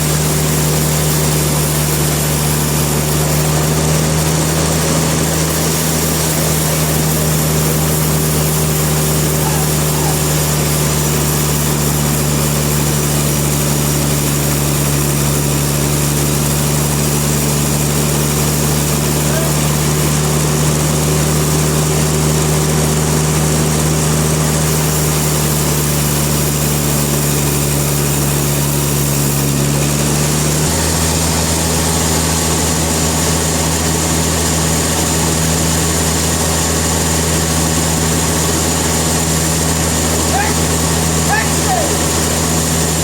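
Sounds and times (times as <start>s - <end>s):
sawmill machinery humming: 0.0s - 43.0s.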